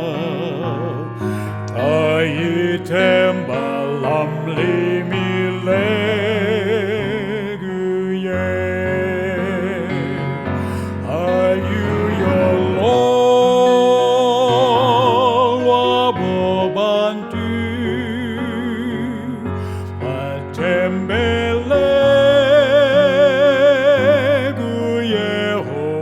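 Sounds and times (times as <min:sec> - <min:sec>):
gospel choir singing: 0:00.0 - 0:19.3, 0:20.0 - 0:26.0.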